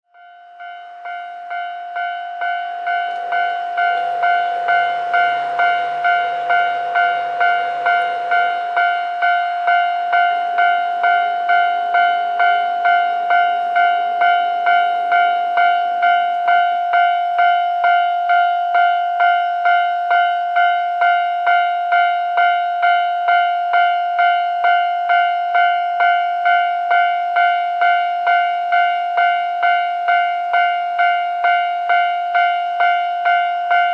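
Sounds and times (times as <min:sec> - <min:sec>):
level crossing alarm ringing: 0:00.1 - 0:33.9.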